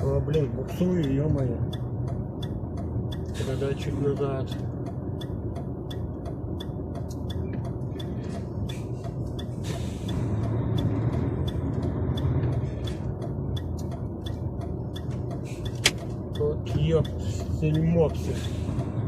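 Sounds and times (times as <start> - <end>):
diesel truck engine under load: 0.0 - 19.0.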